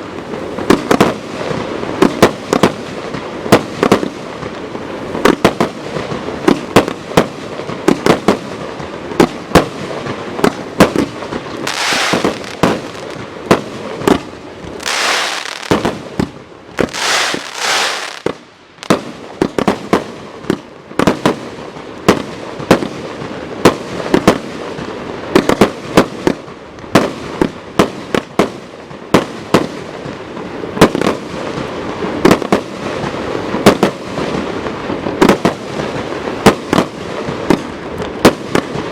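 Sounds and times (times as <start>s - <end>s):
firework bangs: 0.0s - 38.9s
firework hissing and crackling: 0.0s - 38.9s.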